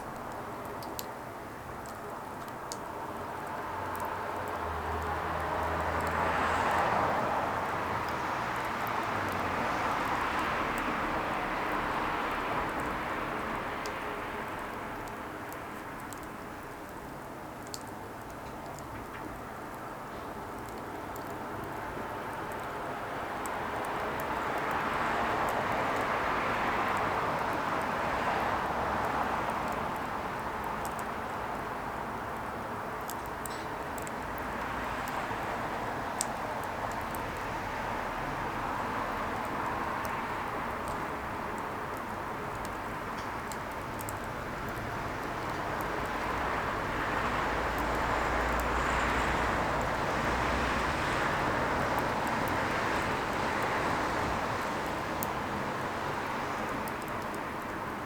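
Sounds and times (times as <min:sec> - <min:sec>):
fire crackles: 0:00.0 - 0:58.0
wood fire burning: 0:00.0 - 0:58.0.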